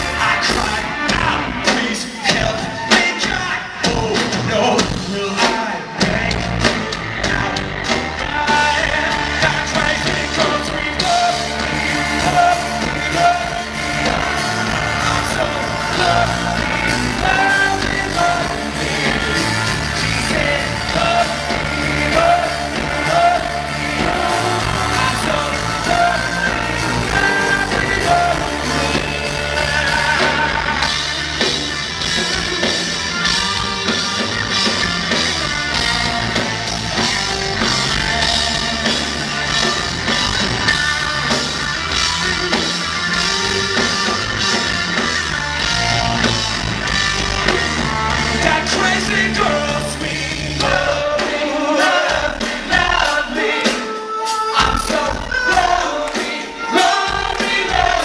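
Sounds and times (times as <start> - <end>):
lead singer singing: 0.0 - 41.6, 47.2 - 58.0
live band playing: 0.0 - 58.0.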